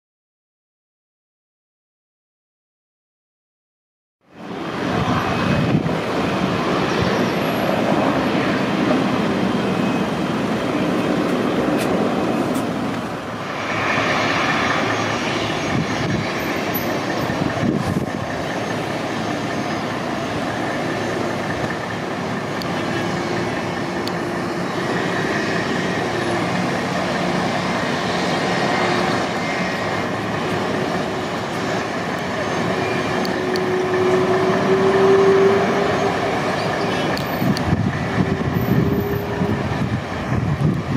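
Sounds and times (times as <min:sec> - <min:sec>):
faint engine whine: 0:04.2 - 0:40.9
jet engines running: 0:04.3 - 0:40.9.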